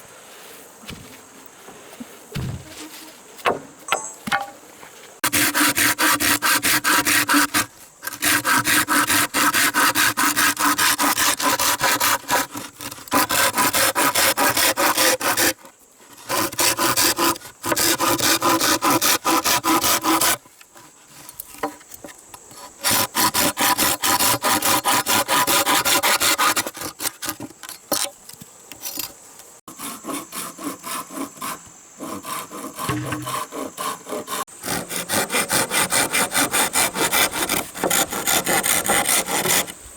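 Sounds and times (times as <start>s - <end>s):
hand saw cutting wood: 5.2s - 27.7s, 29.7s - 39.8s.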